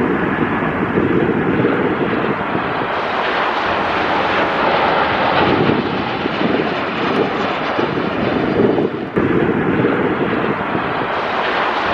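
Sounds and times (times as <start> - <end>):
jet engine roar: 0.0 - 11.9.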